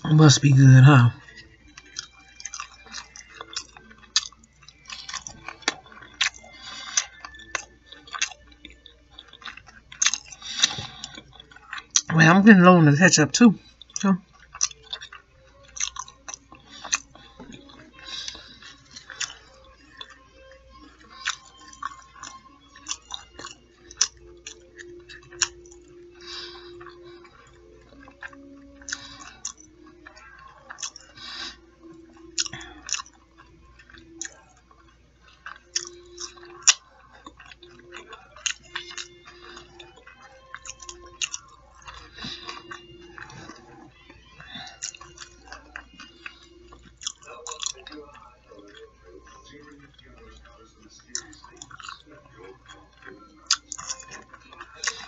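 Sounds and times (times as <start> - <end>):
chewing with mouth clicks: 0.0 - 55.0.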